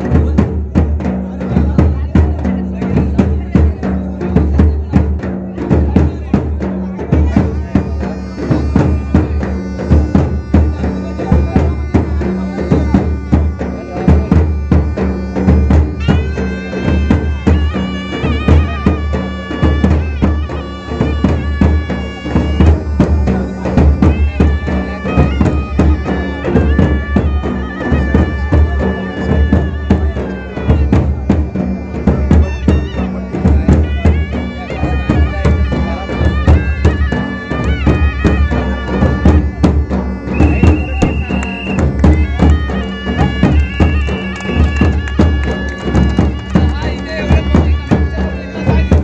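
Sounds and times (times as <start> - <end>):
driving drumming: 0.0 - 49.0
reed wind instrument long notes: 6.8 - 49.0.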